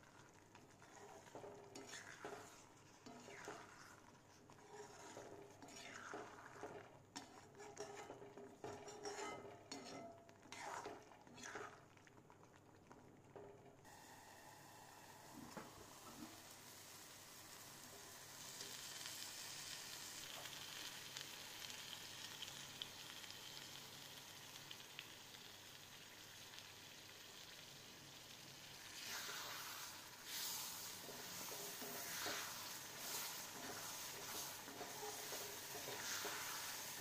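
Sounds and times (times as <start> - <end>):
paste sizzling in oil: 0.0 - 12.4, 13.8 - 37.0.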